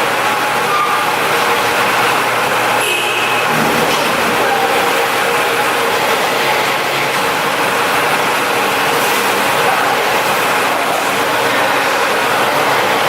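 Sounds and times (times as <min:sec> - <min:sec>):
diesel generator running: 0:00.0 - 0:13.0.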